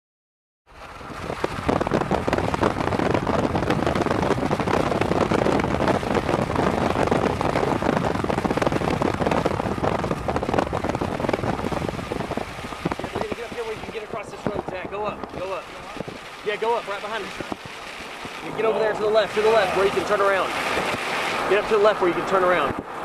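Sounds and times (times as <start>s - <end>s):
heavy rain pattering: 0.7s - 22.8s.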